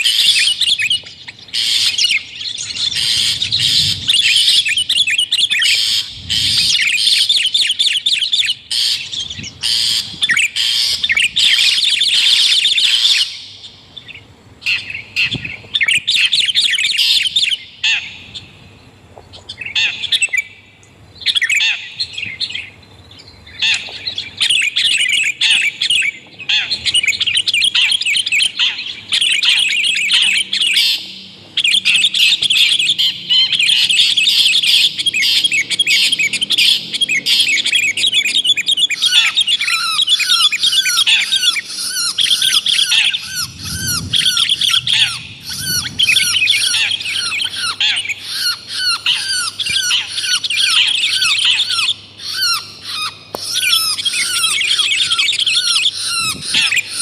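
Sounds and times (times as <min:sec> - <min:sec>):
harsh rapid bird chattering: 0:00.0 - 0:13.8, 0:23.6 - 0:57.0.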